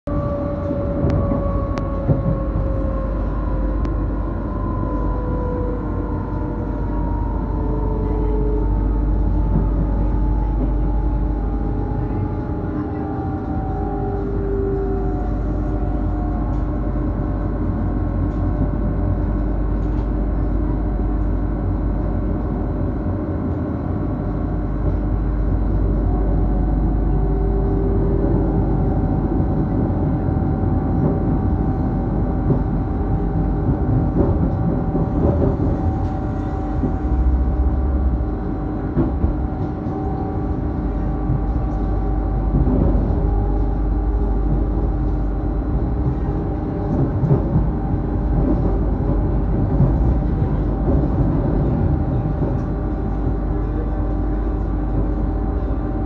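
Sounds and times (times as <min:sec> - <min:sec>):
train wheels rumbling on track: 0:00.1 - 0:56.0.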